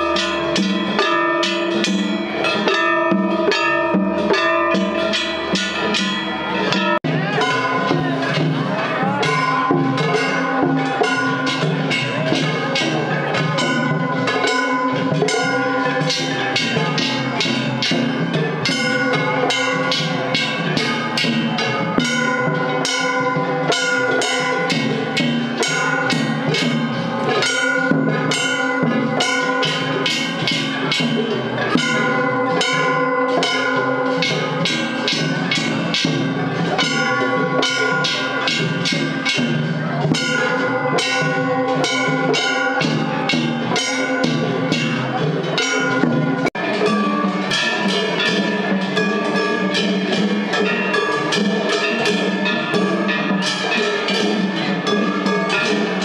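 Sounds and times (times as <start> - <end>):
brass gongs struck rhythmically: 0.0 - 56.0
drums: 0.0 - 56.0.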